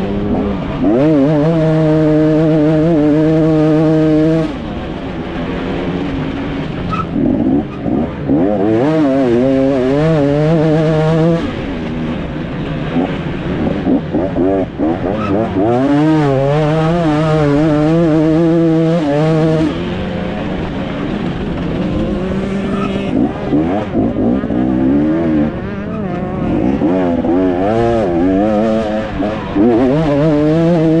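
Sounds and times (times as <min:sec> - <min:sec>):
motocross engine revving: 0:00.0 - 0:31.0.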